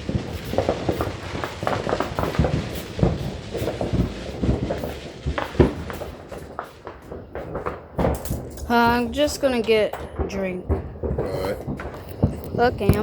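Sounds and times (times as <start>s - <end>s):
fireworks bangs and pops: 0.0s - 13.0s
fireworks crackling: 0.0s - 13.0s.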